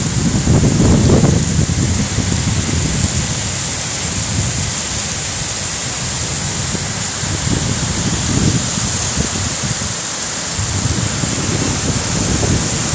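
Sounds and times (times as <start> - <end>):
heavy rain pouring: 0.0 - 12.9
wind buffeting microphone: 0.0 - 12.9.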